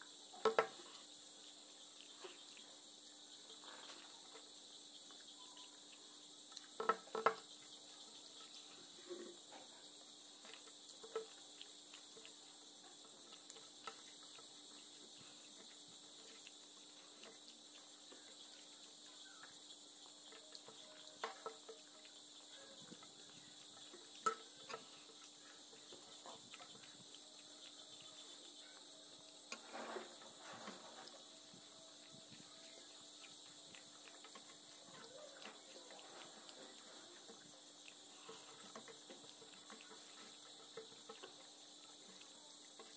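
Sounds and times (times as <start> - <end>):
crickets chirring: 0.0 - 42.9
eating by hand off steel plate: 6.5 - 42.9.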